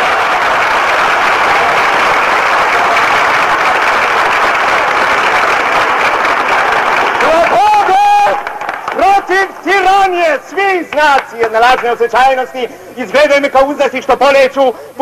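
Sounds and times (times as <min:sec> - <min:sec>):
large crowd applauding: 0:00.0 - 0:13.5.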